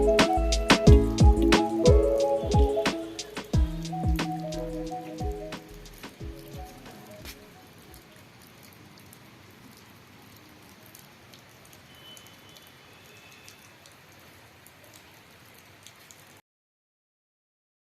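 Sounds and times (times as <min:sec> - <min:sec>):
raindrops ticking: 0:00.0 - 0:16.3
faint steady rain: 0:00.0 - 0:16.4.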